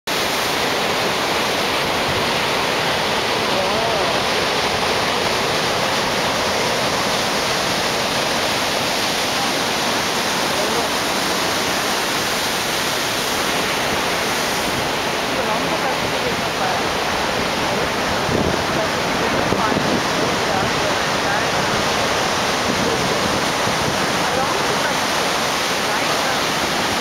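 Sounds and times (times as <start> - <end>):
ocean surf breaking on rocks: 0.1 - 27.0.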